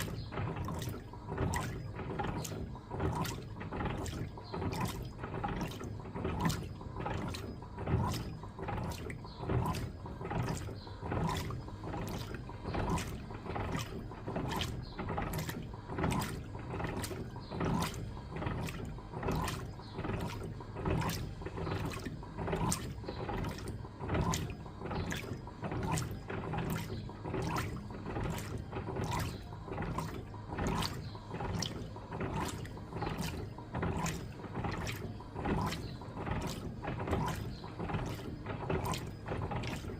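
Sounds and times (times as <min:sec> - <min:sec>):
rhythmic mechanical clicks: 0:00.0 - 0:39.9
water sloshing in washing machine: 0:00.0 - 0:39.9.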